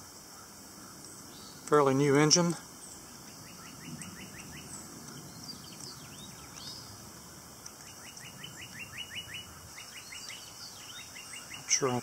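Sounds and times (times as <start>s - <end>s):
faint high hiss: 0.0s - 12.0s
songbird singing: 0.0s - 12.0s.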